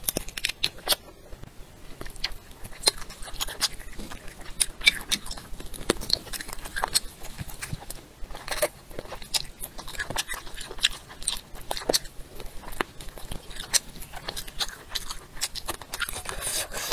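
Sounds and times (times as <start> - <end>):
person chewing and crunching: 0.0 - 16.9.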